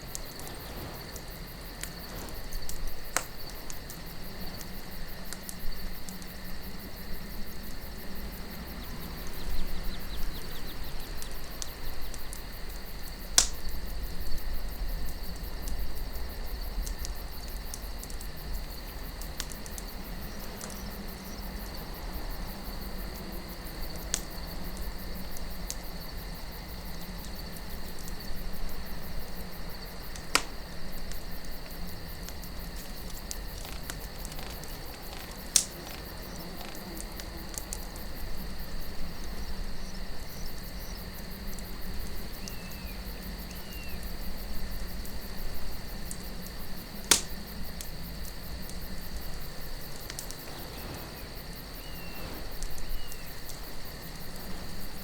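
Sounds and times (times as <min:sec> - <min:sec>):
campfire crackling and popping: 0:00.0 - 0:55.0
crickets chirping: 0:00.0 - 0:55.0
low wind: 0:00.0 - 0:55.0.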